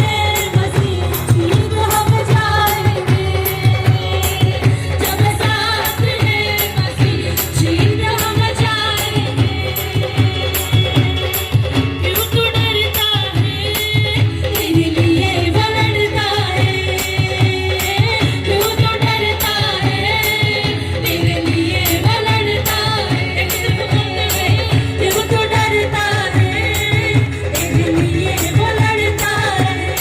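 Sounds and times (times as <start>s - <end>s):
choir singing with instruments: 0.0s - 12.0s, 13.4s - 30.0s
high percussion strikes: 0.0s - 30.0s.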